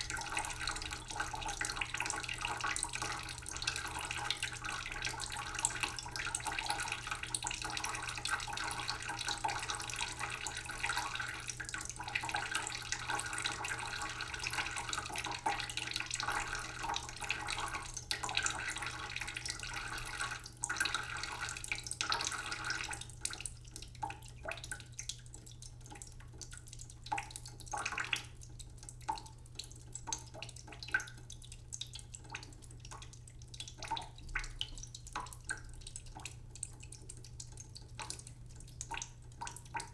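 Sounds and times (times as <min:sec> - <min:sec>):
tap water running into a pot: 0:00.0 - 0:39.9
water dripping: 0:00.0 - 0:39.9.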